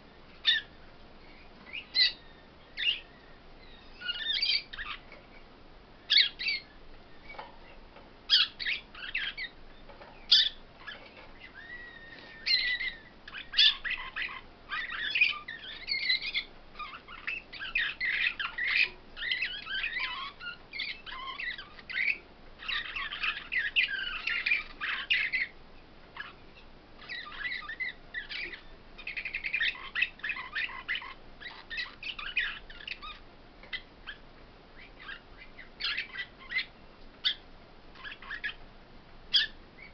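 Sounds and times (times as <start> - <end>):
finches twittering song: 0.0 - 38.6, 39.3 - 39.9.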